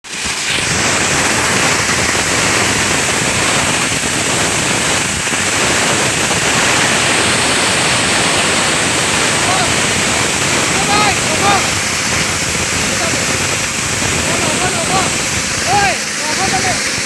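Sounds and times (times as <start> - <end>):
bottle grinder machine running: 0.0 - 17.0.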